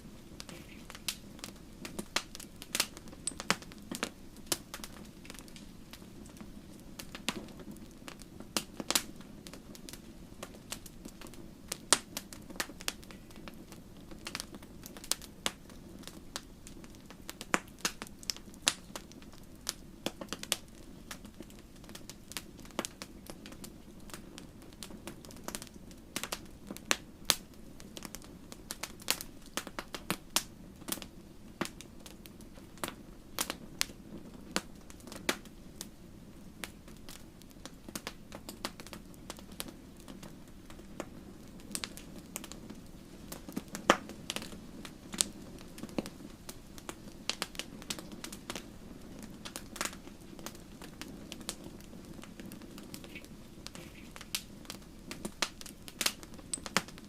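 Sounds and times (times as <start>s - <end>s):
fire crackling and popping: 0.0s - 57.0s
low rush of flame: 0.0s - 57.0s.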